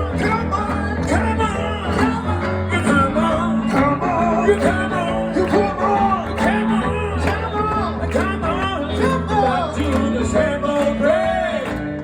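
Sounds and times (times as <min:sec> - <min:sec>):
person singing: 0:00.0 - 0:11.8
acoustic guitar: 0:00.0 - 0:12.0.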